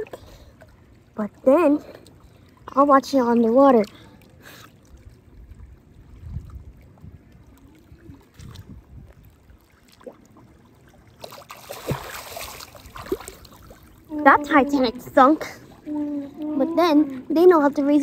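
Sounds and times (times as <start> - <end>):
pool water sloshing underwater: 0.0 - 18.0
water splashing: 0.0 - 18.0.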